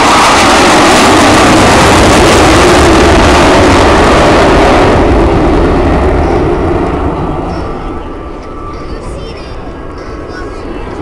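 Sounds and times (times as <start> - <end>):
jets roaring overhead: 0.0 - 11.0.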